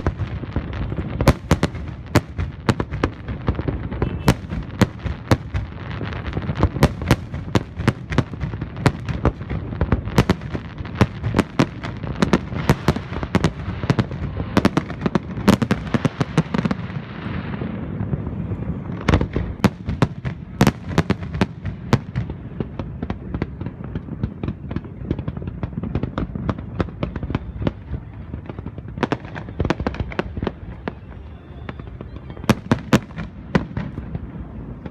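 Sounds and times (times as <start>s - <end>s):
fireworks bursting: 0.0s - 34.9s.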